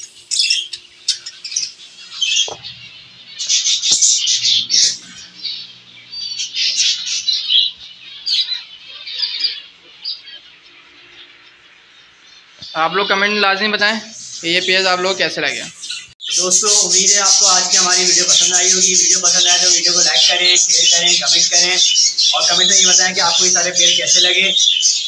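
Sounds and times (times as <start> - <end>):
finches chirping: 0.0 - 25.0.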